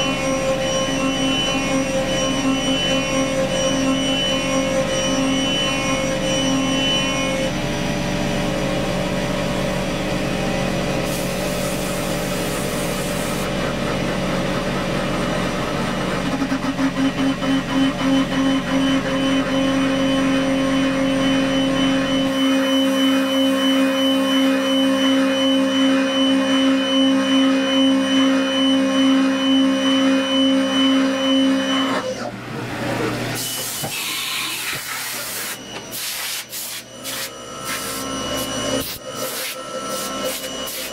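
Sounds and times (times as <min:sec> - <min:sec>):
end mill cutting metal: 0:00.0 - 0:13.6, 0:15.2 - 0:40.9
milling machine spindle whine: 0:00.0 - 0:40.9.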